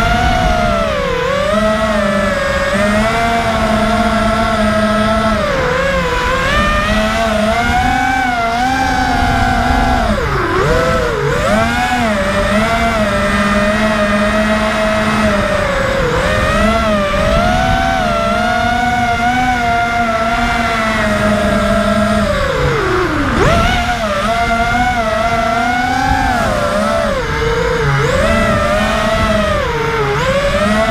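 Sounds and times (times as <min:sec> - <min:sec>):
drone motors whining: 0:00.0 - 0:30.9.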